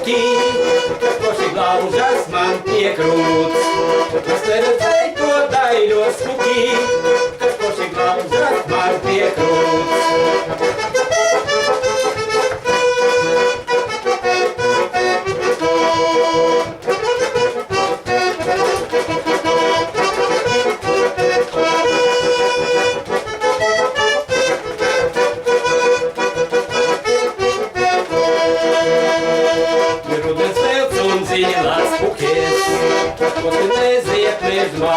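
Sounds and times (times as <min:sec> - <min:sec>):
button accordion playing: 0:00.0 - 0:34.9.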